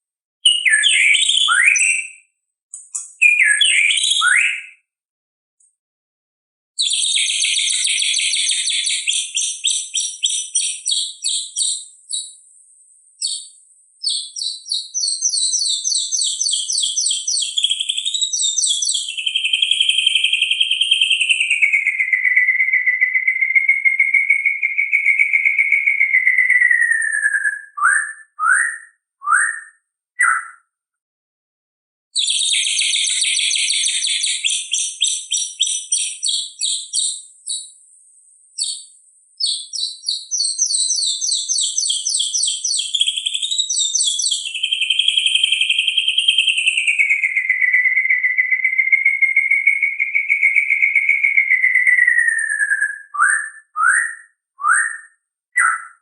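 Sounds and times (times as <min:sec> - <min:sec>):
songbird trills and whistles: 0:00.4 - 0:04.9, 0:06.8 - 0:12.4, 0:13.2 - 0:30.7, 0:32.2 - 0:37.8, 0:38.6 - 0:56.0.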